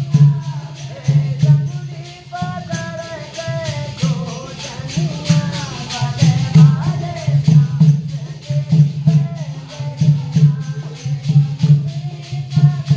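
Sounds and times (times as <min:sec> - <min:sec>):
elderly man singing devotional song: 0:00.0 - 0:12.9
jingling percussion beat: 0:00.0 - 0:12.9.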